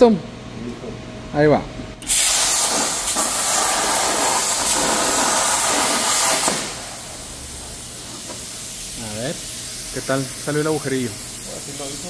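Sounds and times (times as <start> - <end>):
plasma cutter arc hissing: 2.0 - 12.0.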